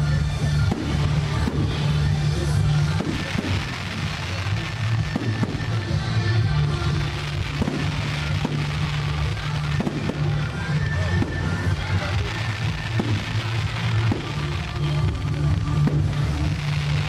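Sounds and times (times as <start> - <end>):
fireworks bangs: 0.0 - 17.0
fireworks crackle: 0.0 - 17.0
music with low notes: 0.0 - 17.0.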